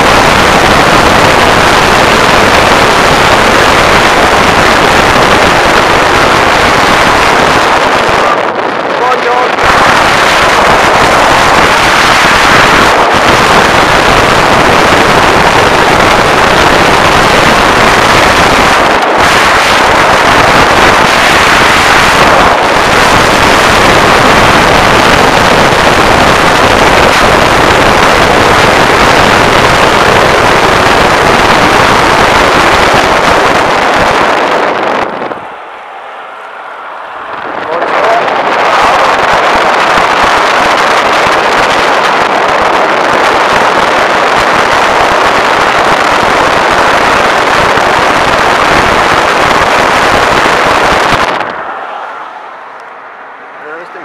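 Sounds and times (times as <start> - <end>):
road noise: 0.0 - 54.0
wind rushing: 0.0 - 54.0.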